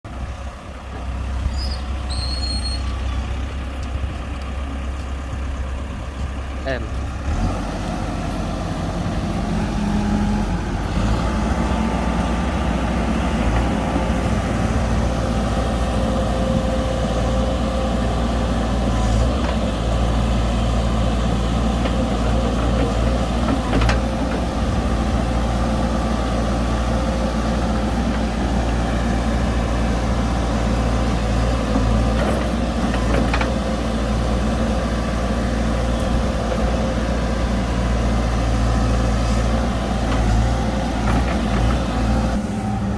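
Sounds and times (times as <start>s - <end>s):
diesel machinery engine drone: 0.0s - 42.9s.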